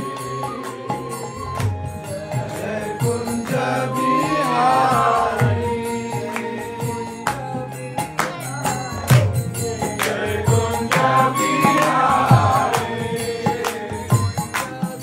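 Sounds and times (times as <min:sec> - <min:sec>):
devotional chant singing: 0:00.0 - 0:15.0
harmonium reed tones: 0:00.0 - 0:15.0.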